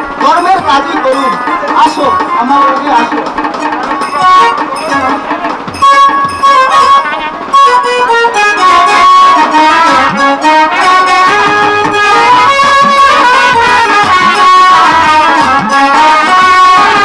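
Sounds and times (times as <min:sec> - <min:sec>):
band melody of held notes: 0:00.0 - 0:17.0
repeated drum strokes: 0:00.0 - 0:17.0.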